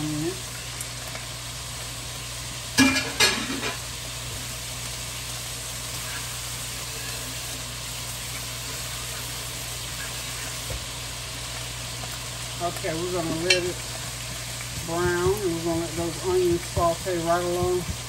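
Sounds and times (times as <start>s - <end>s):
meat and onion sizzling: 0.0s - 18.0s.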